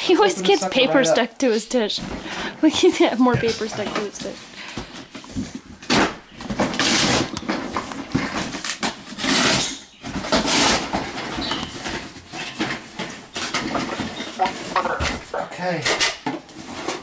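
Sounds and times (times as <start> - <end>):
paper and cardboard rustling: 0.1 - 17.0.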